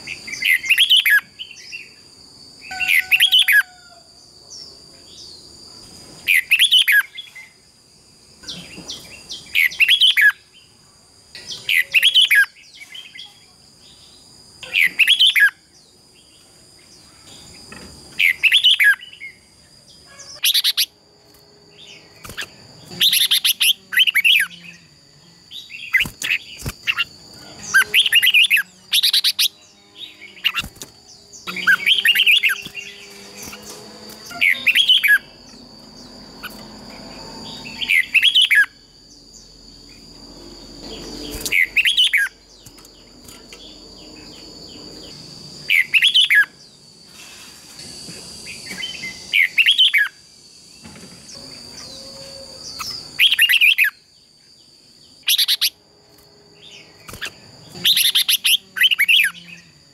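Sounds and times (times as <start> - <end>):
birds singing: 0.0 - 7.7, 8.4 - 47.5, 48.3 - 59.9.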